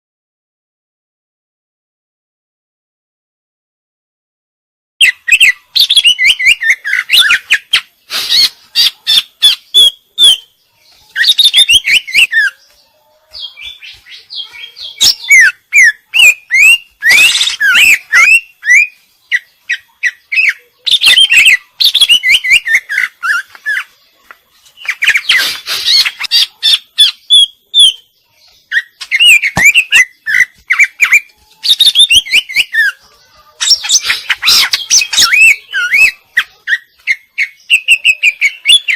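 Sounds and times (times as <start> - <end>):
bird singing whistles and chirps: 5.0 - 23.9, 24.7 - 38.9.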